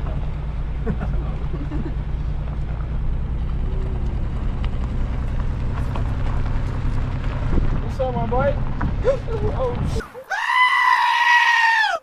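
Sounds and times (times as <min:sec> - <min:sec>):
vehicle engine and road rumble: 0:00.0 - 0:10.3.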